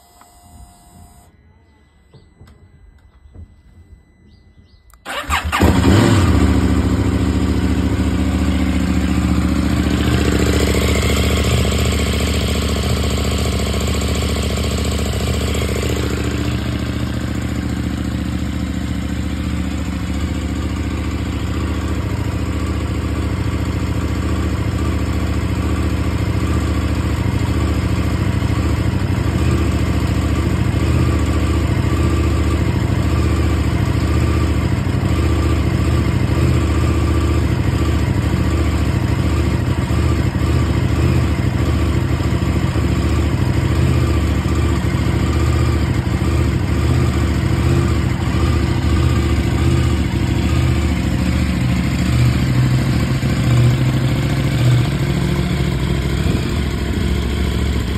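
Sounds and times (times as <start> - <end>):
motorcycle engine starting and idling: 2.0 - 57.9.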